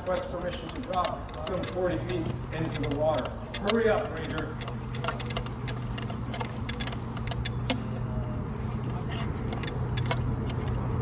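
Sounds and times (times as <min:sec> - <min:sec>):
sharp clicks and knocks: 0:00.0 - 0:07.9, 0:08.7 - 0:10.8.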